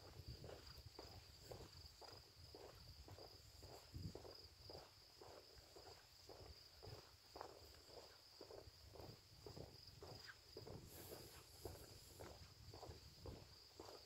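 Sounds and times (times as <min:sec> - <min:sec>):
faint footsteps walking: 0:00.0 - 0:14.0
night insects chirring: 0:00.0 - 0:14.0.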